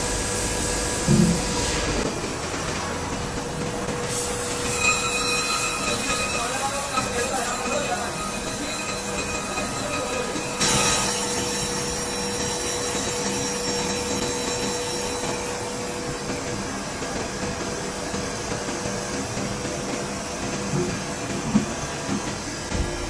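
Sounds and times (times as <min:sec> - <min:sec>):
workshop machinery humming: 0:00.0 - 0:23.0.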